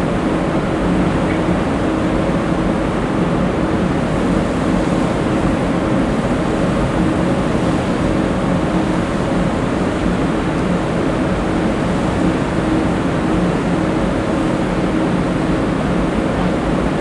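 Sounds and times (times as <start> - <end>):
ship engine drone: 0.0 - 17.0
wind and water noise: 0.0 - 17.0.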